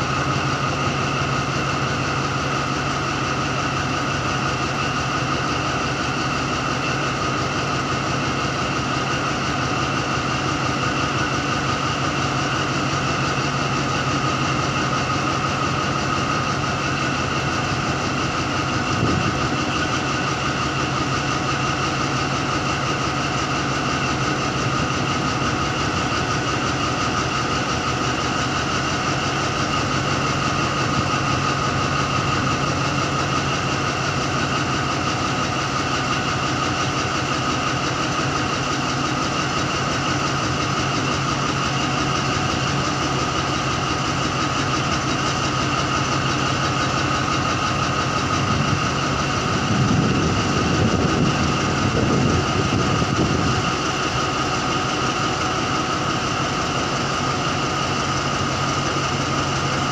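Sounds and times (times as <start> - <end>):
diesel locomotive engine idling: 0.0 - 59.9
high engine whine: 0.0 - 59.9.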